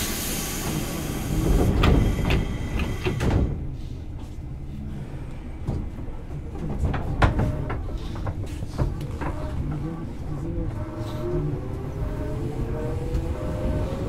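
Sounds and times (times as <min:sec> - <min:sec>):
sliding train doors opening: 0:00.0 - 0:04.4, 0:05.3 - 0:14.0
hum of stopped train: 0:00.0 - 0:14.0.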